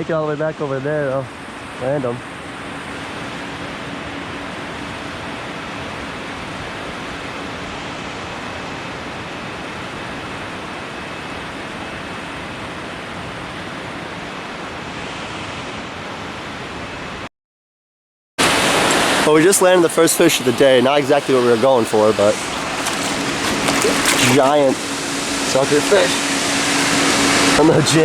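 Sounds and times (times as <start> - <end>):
water roaring over a dam: 0.0 - 17.2, 18.4 - 28.0.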